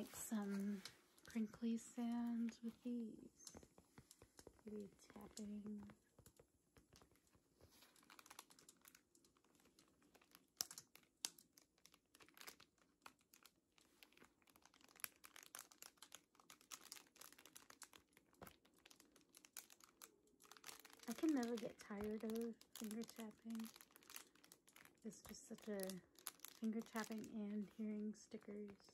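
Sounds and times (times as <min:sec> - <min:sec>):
sticker sheets crinkling: 0:00.0 - 0:28.9.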